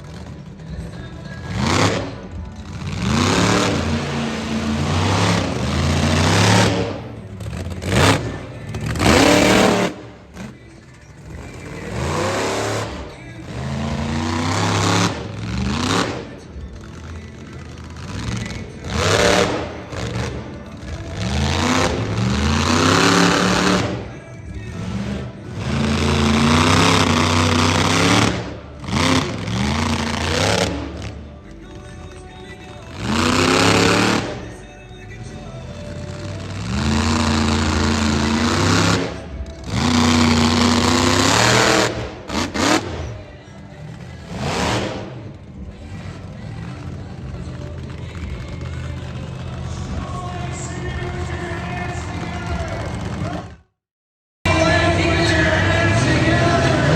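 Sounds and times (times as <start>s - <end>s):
monster truck engine revving: 0.0s - 31.8s, 32.6s - 53.7s, 54.5s - 56.9s.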